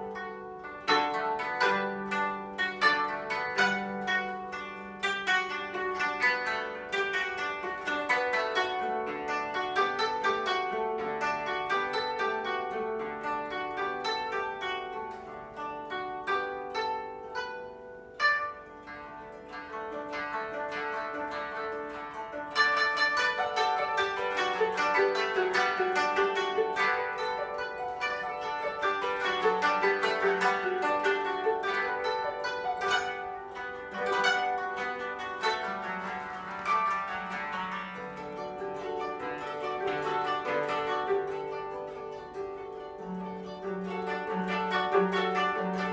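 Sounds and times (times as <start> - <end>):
koto ensemble plucking: 0.0 - 45.9.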